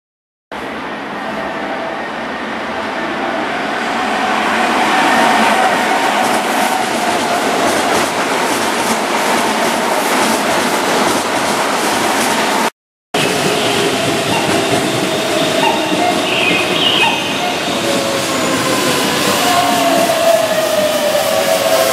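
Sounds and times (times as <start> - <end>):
electric train passing: 0.6 - 21.9.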